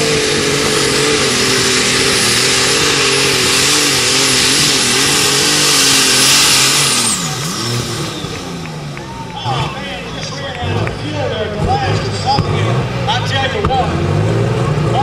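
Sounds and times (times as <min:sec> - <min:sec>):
turbo whine winding down: 0:00.0 - 0:12.4
tractor engine at full throttle: 0:00.0 - 0:15.0.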